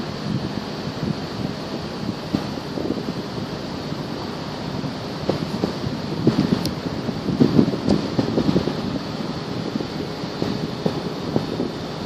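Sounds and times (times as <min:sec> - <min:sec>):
rush of open water: 0:00.0 - 0:12.0
wind buffeting microphone: 0:00.0 - 0:12.0.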